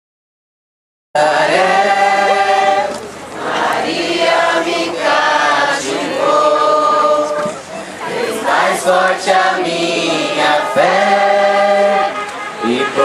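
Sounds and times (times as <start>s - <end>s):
group singing a hymn: 1.2s - 13.0s.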